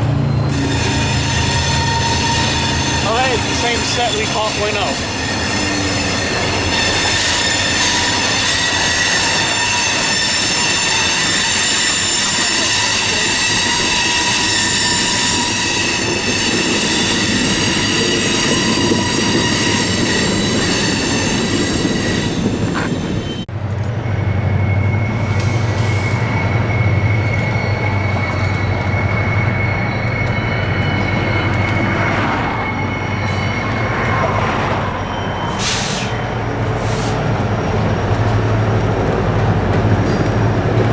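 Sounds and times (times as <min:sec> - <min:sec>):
train wheels squealing: 0:00.0 - 0:37.9
train deep rumble: 0:00.0 - 0:40.9.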